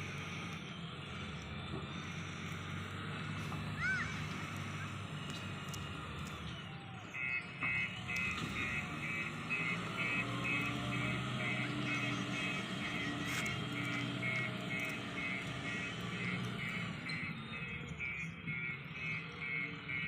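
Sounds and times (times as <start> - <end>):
diesel engine running: 0.0 - 20.0
reversing alarm beeping: 0.0 - 20.0.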